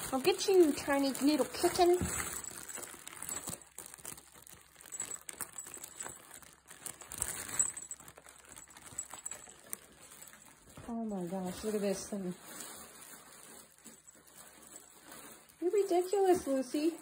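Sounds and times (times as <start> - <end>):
fabric rustling and crinkling: 0.0 - 17.0.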